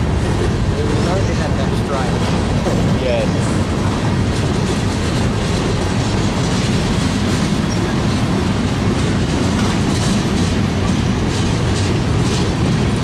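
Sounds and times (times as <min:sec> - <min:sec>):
steel wheels rolling on rails: 0:00.0 - 0:13.0.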